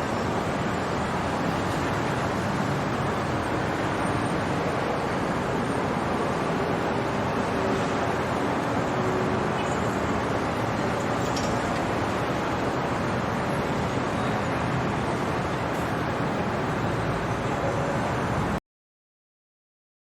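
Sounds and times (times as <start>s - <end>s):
distant road traffic hum: 0.0s - 18.6s.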